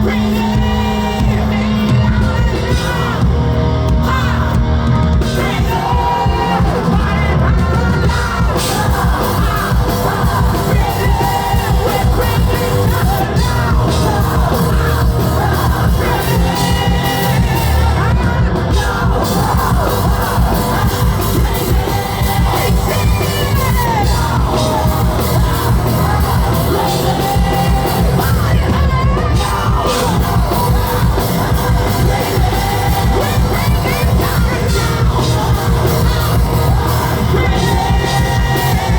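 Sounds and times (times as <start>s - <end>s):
person singing and shouting: 0.0s - 38.9s
rock band playing live: 0.0s - 38.9s.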